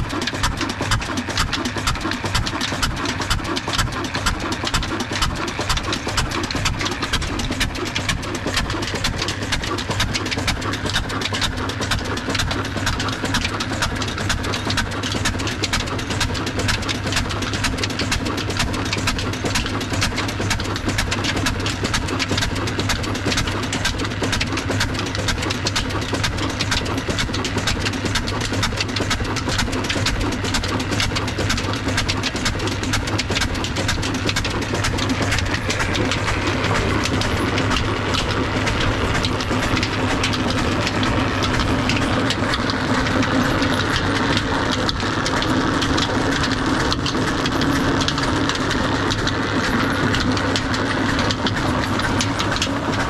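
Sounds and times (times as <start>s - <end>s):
belt and pulley whirring: 0.0s - 53.0s
diesel engine running: 0.0s - 53.0s.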